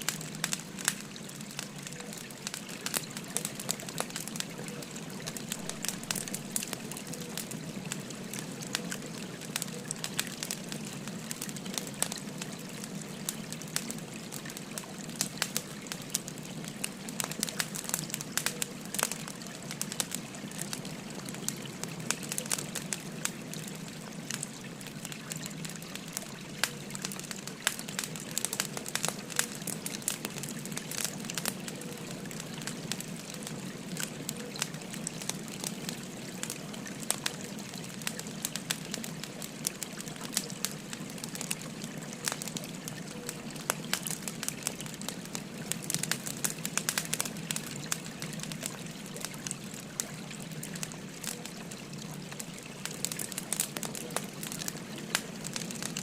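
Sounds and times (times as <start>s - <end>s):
stream flowing: 0.0s - 56.0s
wood fire crackling and popping: 0.0s - 56.0s.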